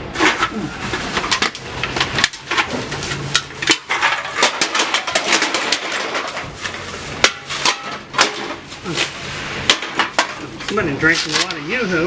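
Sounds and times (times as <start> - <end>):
cans clattering into a hopper: 0.1 - 11.6.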